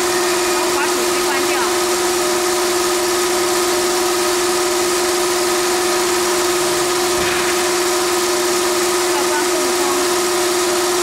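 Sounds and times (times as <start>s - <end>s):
machine motor hum: 0.0s - 11.0s.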